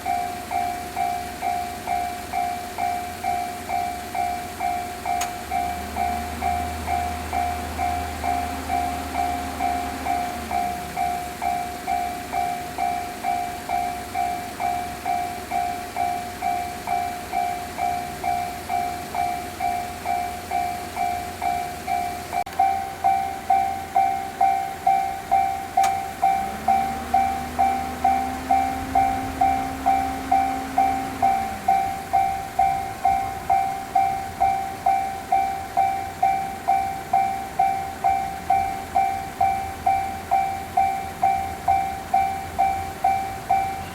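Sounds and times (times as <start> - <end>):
level crossing electronic bell: 0.0 - 43.9
train motor whine: 0.0 - 43.9
train rumbling past: 0.0 - 43.9.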